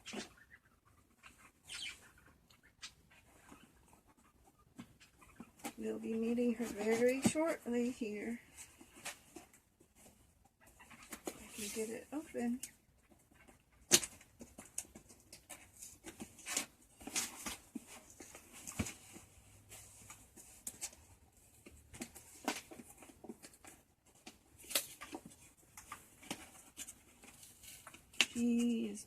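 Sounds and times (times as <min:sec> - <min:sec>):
scratching and crinkling packaging: 0:00.0 - 0:29.0.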